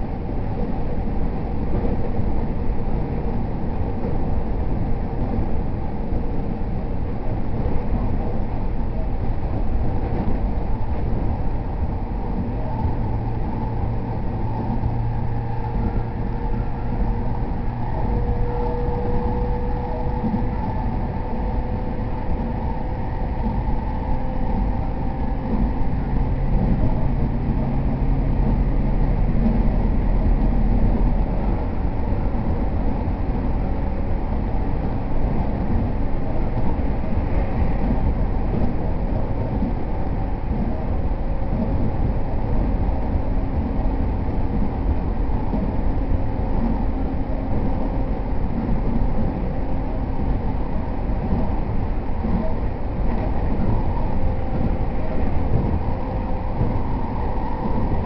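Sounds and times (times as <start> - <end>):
low hum: 0.0 - 58.0
train wheels rumbling on rail: 0.0 - 58.0.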